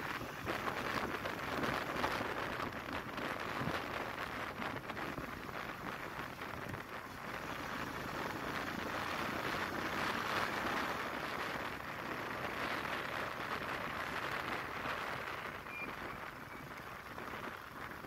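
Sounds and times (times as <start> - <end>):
car tyre and wind hiss: 0.0 - 18.0.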